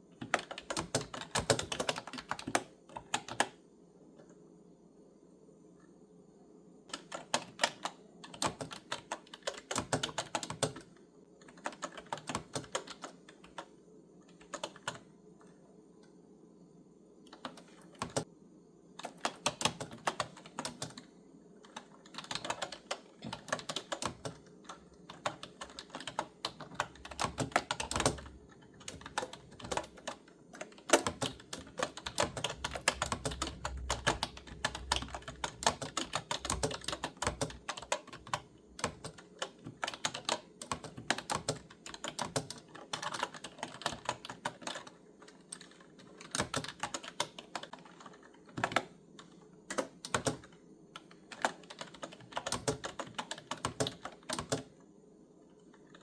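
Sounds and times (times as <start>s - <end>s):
typing on clicky keyboard: 0.2s - 3.6s, 6.9s - 15.6s, 17.2s - 18.3s, 19.0s - 54.8s.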